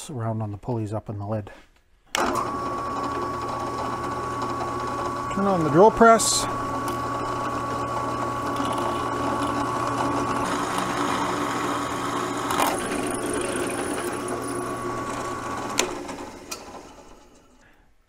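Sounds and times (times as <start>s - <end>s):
drill press drilling into steel: 2.2s - 17.6s.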